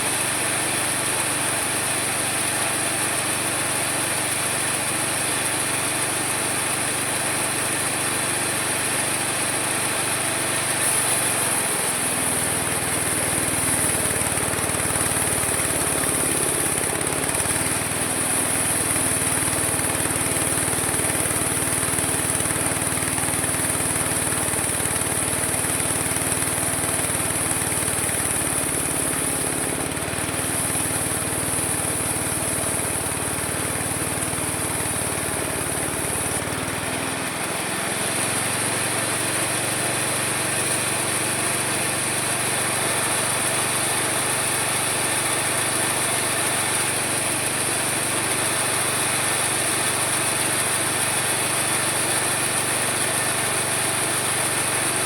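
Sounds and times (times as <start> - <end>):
sawmill high whine: 0.0 - 55.0
small engine running: 0.0 - 55.0.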